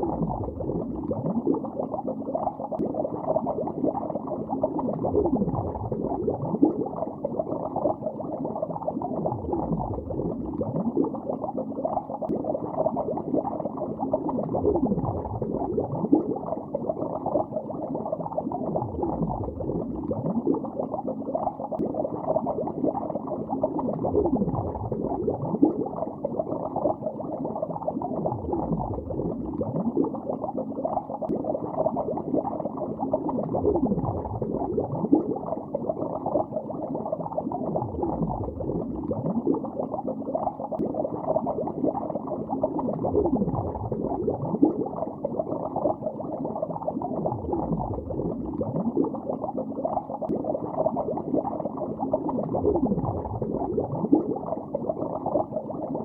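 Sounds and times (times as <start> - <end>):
underwater bubbling: 0.0 - 56.0.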